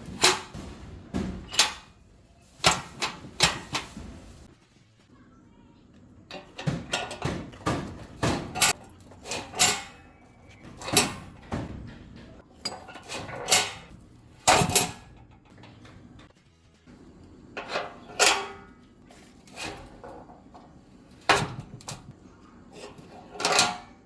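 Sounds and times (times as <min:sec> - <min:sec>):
metal clanks and knocks: 0:00.0 - 0:04.5, 0:06.3 - 0:16.4, 0:17.5 - 0:24.0.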